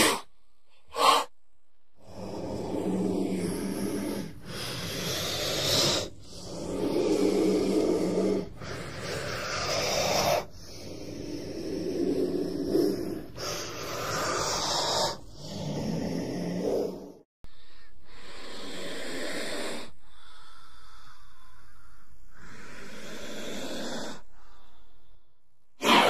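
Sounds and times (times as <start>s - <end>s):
snake hissing: 0.0s - 0.3s, 0.9s - 1.3s, 2.0s - 17.2s, 18.0s - 26.0s.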